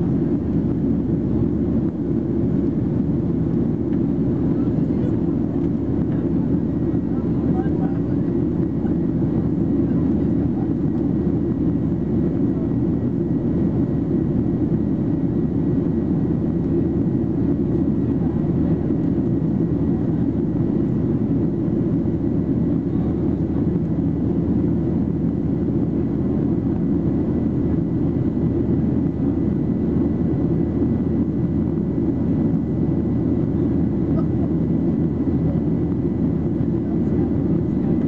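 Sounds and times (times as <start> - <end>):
jet engine cabin drone: 0.0 - 38.0.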